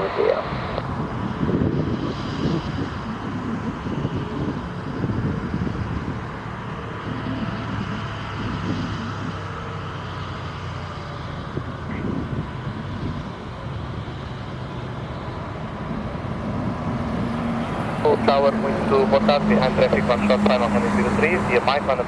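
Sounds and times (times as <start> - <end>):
jet engine rumble: 0.0 - 22.0
wind buffeting microphone: 0.0 - 22.0.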